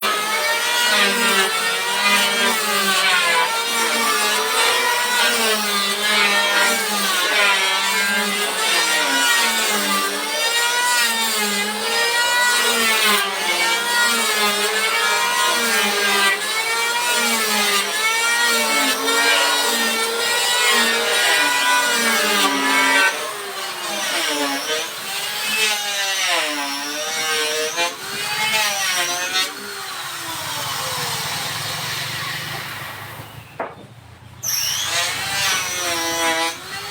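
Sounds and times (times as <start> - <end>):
small power tool cutting wood: 0.0 - 36.9.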